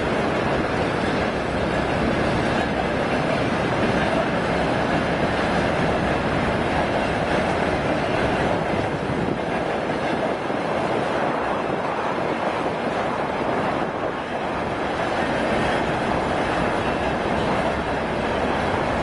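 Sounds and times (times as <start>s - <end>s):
train wheels on rail: 0.0s - 19.0s.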